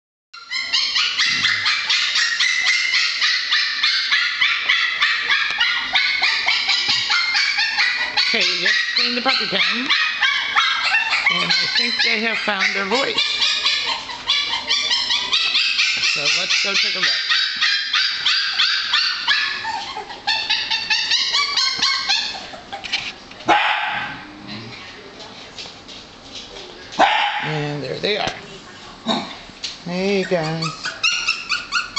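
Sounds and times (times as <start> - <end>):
puppies yapping: 0.4 - 24.2, 30.0 - 31.9.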